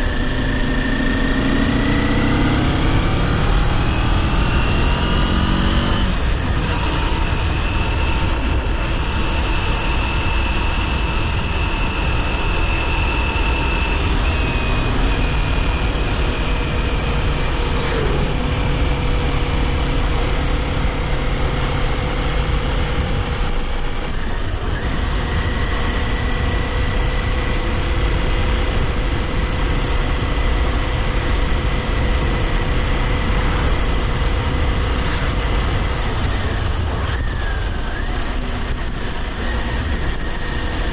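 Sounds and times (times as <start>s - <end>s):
motorcycle engine cruising: 0.0s - 40.9s
wind rumble on microphone: 0.0s - 40.9s.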